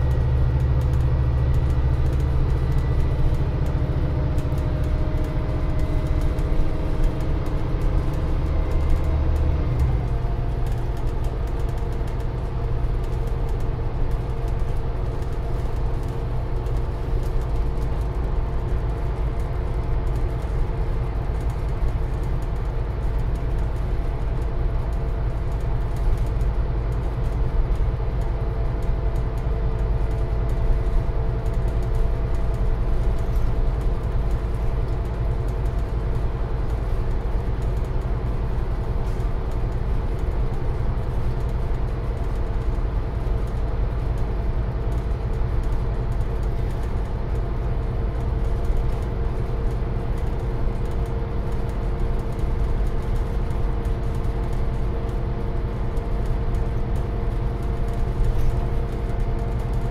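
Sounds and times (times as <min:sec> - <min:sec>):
road noise: 0:00.0 - 0:59.8
bus diesel engine rumbling: 0:00.0 - 0:59.9.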